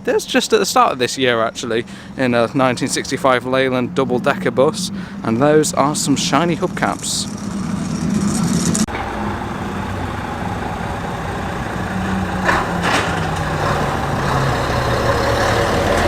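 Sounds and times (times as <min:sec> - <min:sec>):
lorry engine running: 0:01.8 - 0:16.0.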